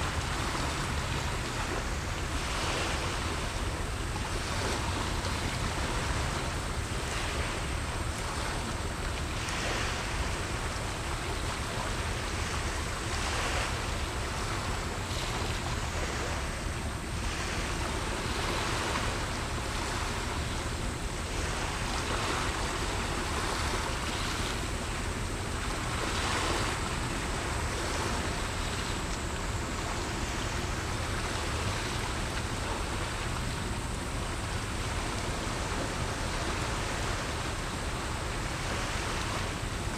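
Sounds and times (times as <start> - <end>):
small sea waves washing: 0.0 - 39.9.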